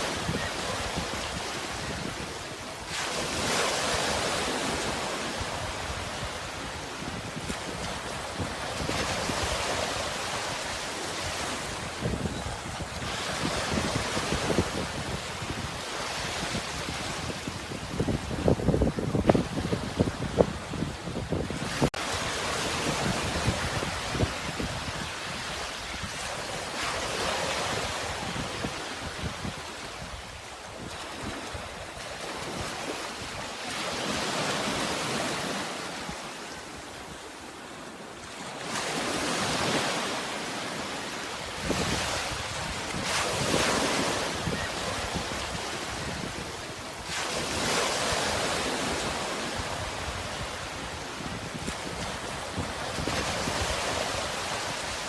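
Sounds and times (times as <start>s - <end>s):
wind on microphone: 0.0s - 37.3s, 41.3s - 55.0s
sea waves breaking on shore: 0.0s - 55.0s.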